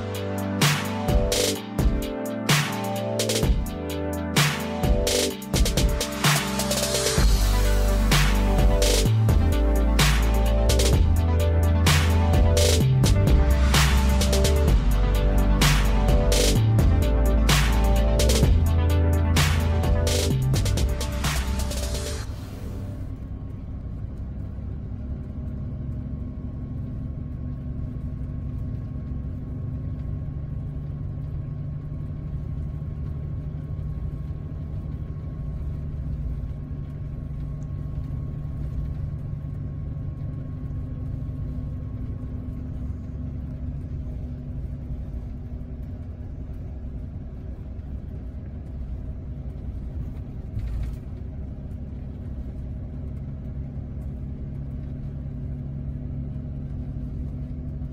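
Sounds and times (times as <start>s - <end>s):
bus engine and tyres droning: 0.0s - 57.9s
faint steady whine: 6.2s - 57.9s.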